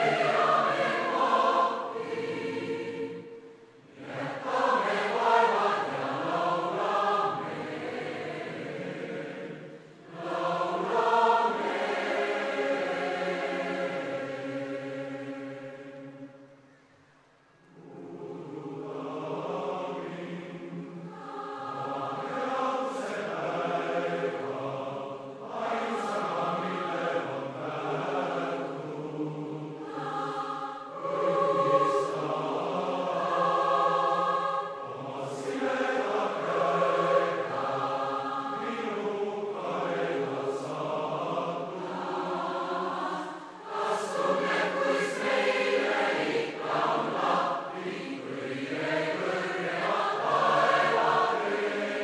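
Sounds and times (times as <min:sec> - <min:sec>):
choir singing in harmony: 0:00.0 - 0:16.7, 0:17.6 - 0:52.0.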